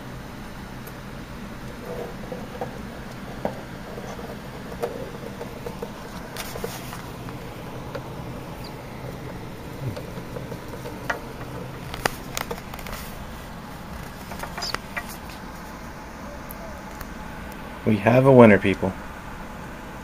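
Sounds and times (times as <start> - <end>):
steady low hum: 0.0 - 20.0
mice scratching and rustling: 1.0 - 17.1.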